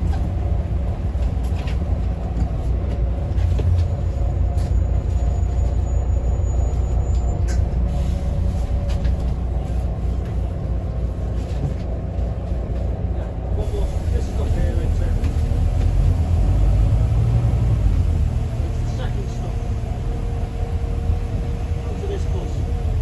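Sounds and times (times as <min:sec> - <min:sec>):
bus engine rumbling: 0:00.0 - 0:23.0.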